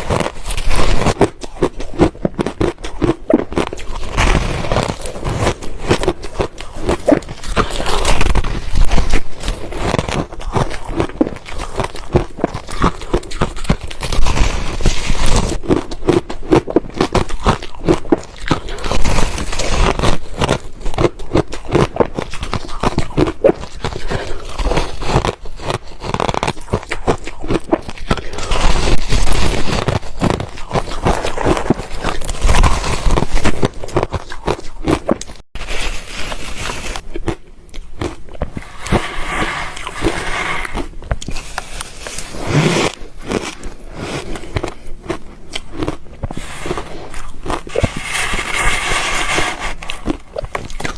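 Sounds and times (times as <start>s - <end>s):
ice crunching between teeth: 0.0s - 50.9s.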